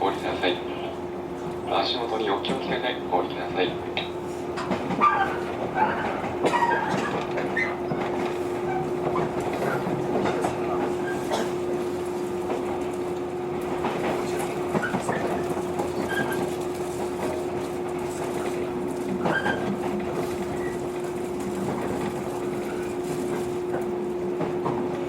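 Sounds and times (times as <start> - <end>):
train equipment humming: 0.0 - 25.0.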